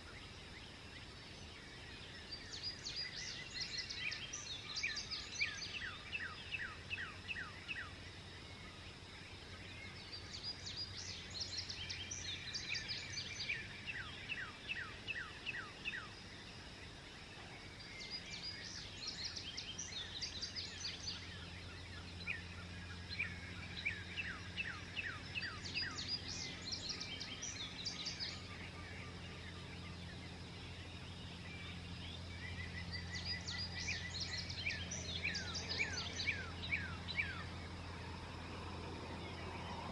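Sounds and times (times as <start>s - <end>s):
songbirds singing: 0.0s - 39.9s
steady low hum: 0.0s - 39.9s.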